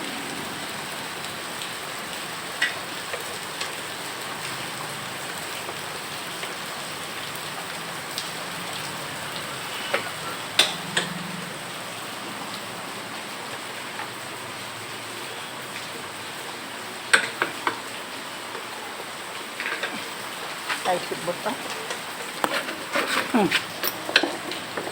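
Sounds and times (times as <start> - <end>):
steady rain: 0.0 - 24.9.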